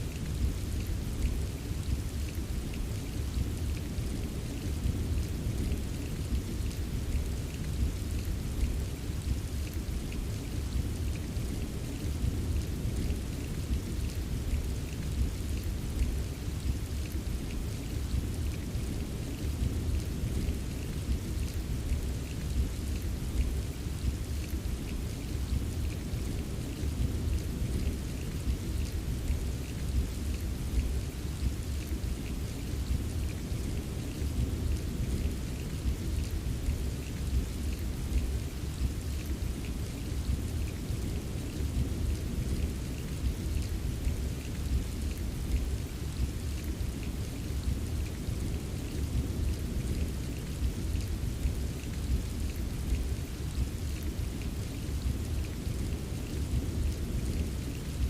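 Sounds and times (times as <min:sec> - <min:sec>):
steady rain drops ticking: 0:00.0 - 0:58.0.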